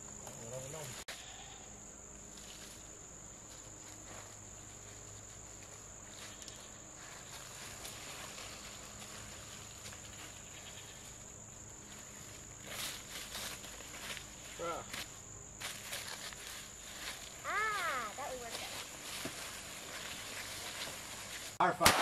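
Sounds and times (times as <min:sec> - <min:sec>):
insect chorus trilling: 0:00.0 - 0:21.8
faint rustles: 0:02.2 - 0:21.6.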